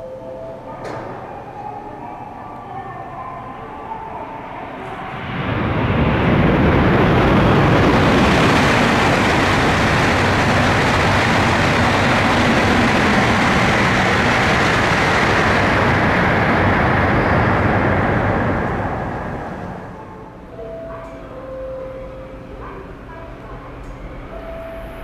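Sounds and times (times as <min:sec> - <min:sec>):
high-speed train passing: 0:00.0 - 0:25.0.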